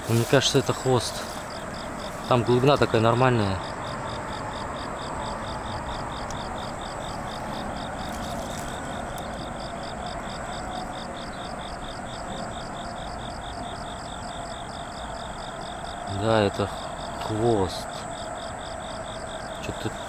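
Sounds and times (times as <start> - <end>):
insects chirping: 0.0 - 20.0
steady outdoor hiss: 0.0 - 20.0.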